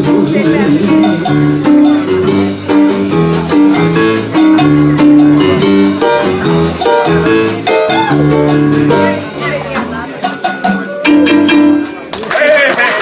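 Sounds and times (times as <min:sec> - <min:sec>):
plucked double bass: 0:00.0 - 0:12.2
piano: 0:00.0 - 0:12.5
drums and hand percussion: 0:00.0 - 0:13.0.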